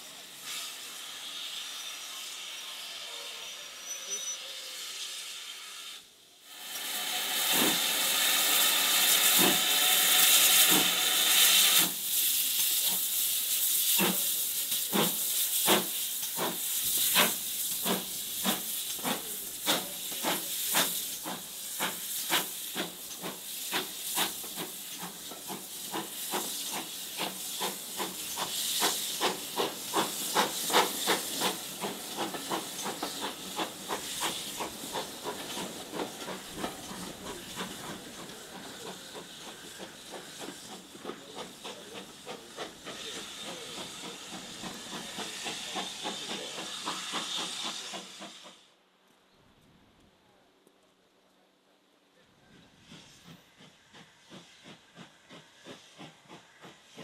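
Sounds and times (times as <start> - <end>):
steam hissing: 0.0 - 48.8, 52.4 - 57.0
steam locomotive exhaust beats: 6.5 - 48.7, 52.4 - 57.0.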